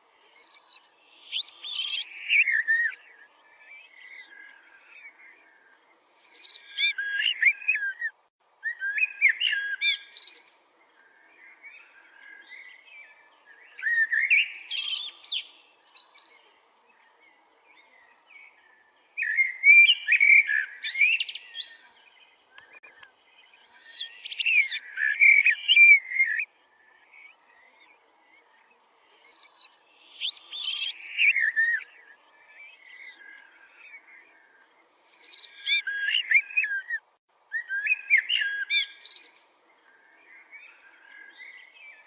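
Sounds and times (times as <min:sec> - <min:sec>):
bird song phrases: 0:00.0 - 0:42.0
quiet bird calls: 0:00.0 - 0:42.0.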